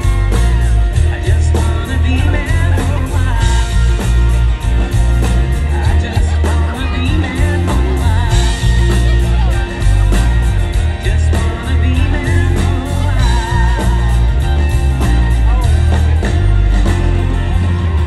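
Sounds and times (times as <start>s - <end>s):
country band playing: 0.0s - 18.0s
drum beat: 0.0s - 18.0s
strummed acoustic guitar: 0.0s - 18.0s.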